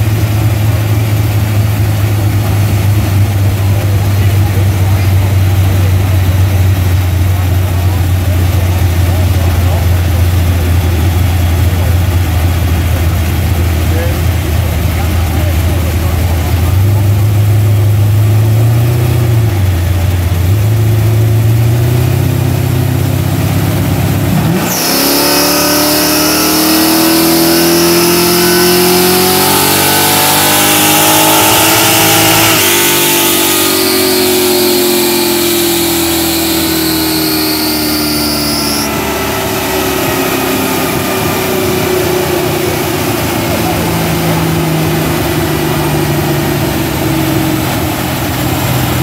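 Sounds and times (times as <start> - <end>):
car engine revving: 0.0 - 49.0
spinning tyres and rollers whine: 0.0 - 49.0.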